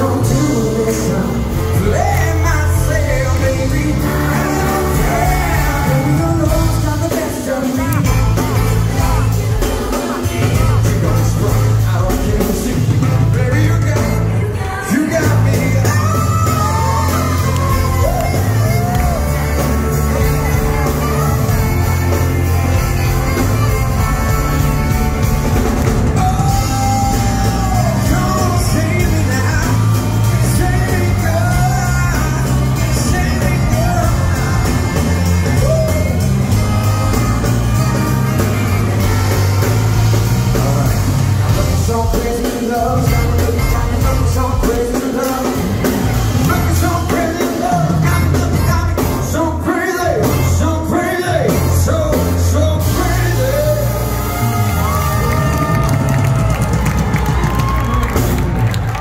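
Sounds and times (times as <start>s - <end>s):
man singing: 0.0s - 25.4s, 26.0s - 38.1s, 38.9s - 54.6s
drum kit: 0.0s - 59.0s
heavy bass line: 0.0s - 59.0s
keyboards: 0.0s - 59.0s.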